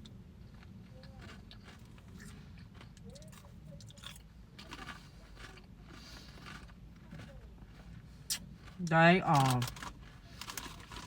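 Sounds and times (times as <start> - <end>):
chewing crunchy potato crisp: 0.0 - 11.0.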